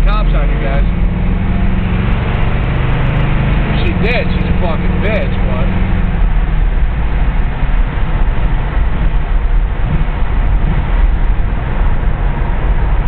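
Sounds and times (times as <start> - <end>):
car interior driving rumble: 0.0 - 13.0.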